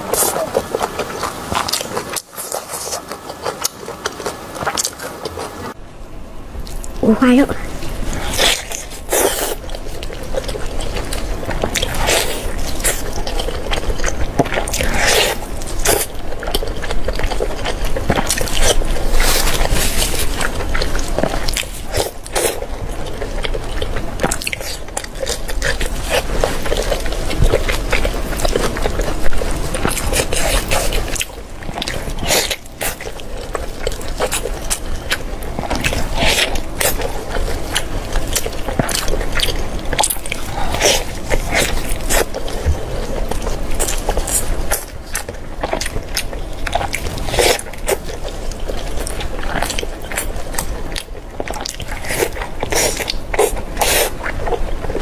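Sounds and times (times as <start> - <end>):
person biting and chewing: 0.0 - 5.7, 8.0 - 55.0.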